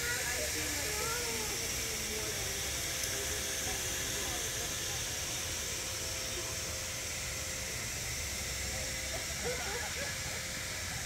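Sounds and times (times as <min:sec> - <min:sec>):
faint distant voices: 0:00.0 - 0:11.0.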